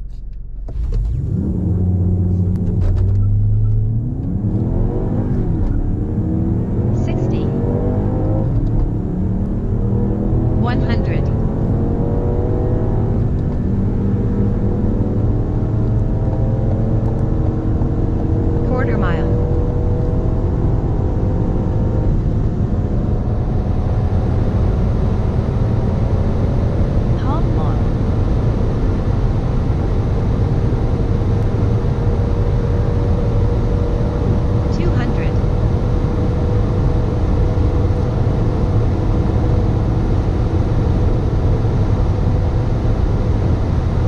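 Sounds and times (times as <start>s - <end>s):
wind and road noise: 0.0s - 44.0s
car engine accelerating hard: 0.1s - 44.0s.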